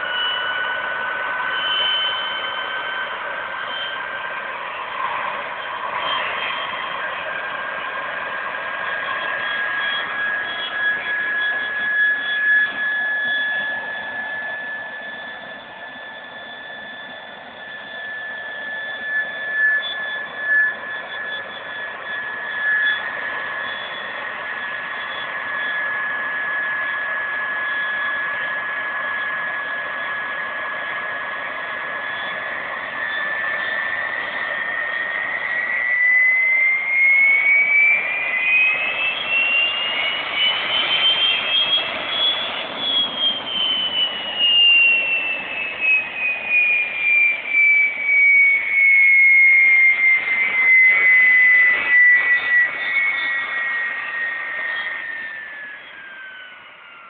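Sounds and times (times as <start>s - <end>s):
turbojet engine whine and roar: 0.0s - 57.0s.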